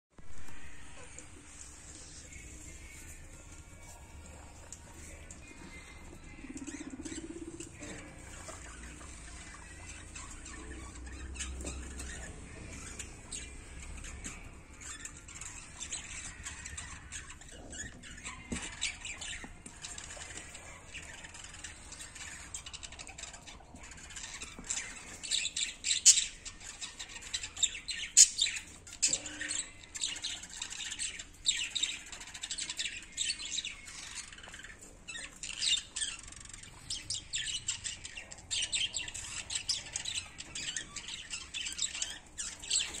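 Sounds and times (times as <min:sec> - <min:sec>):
guinea pigs feeding: 0:00.1 - 0:43.0
guinea pig high squeaks: 0:00.6 - 0:43.0.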